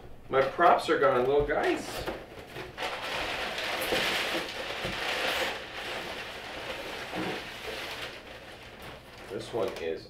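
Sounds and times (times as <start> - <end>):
packing paper rustling: 0.3 - 10.0.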